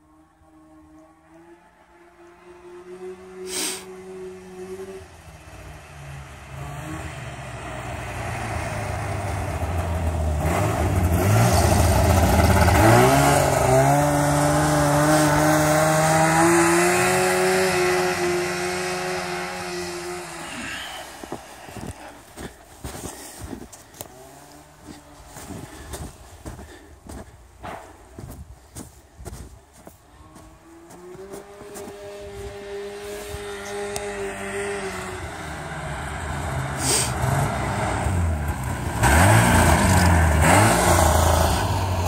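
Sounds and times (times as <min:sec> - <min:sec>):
snowmobile engine revving: 0:00.0 - 0:42.0.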